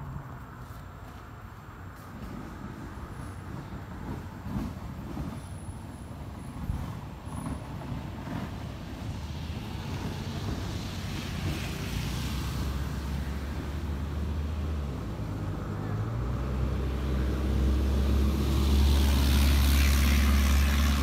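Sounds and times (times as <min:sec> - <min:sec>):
hiss of passing vehicle: 0:00.0 - 0:21.0
vehicle engine rumbling: 0:00.0 - 0:21.0.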